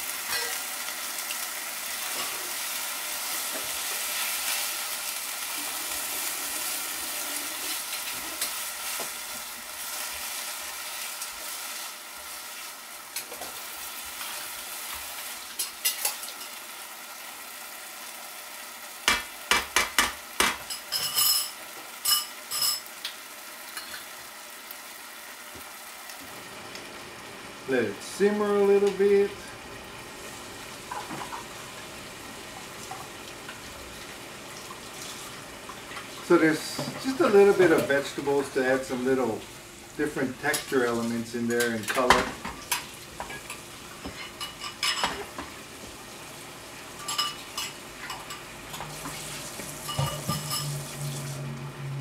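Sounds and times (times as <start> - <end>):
food sizzling in a frying pan: 0.0 - 52.0.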